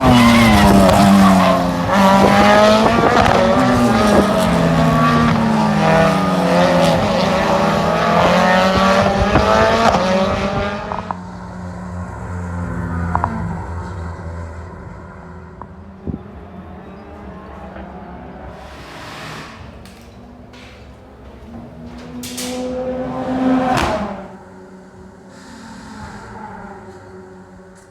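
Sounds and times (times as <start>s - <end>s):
racing car engines revving: 0.0s - 27.9s.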